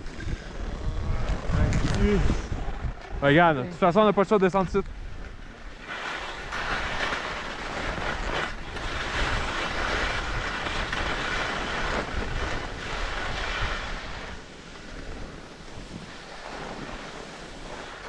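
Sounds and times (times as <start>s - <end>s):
skis scraping over snow: 0.0s - 18.0s
wind rumbling on microphone: 0.0s - 18.0s.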